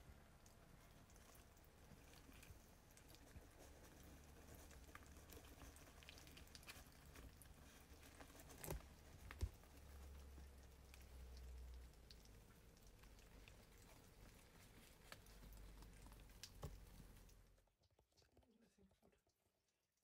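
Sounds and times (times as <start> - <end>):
hedgehog eating smacking and clicking: 0.3 - 18.0.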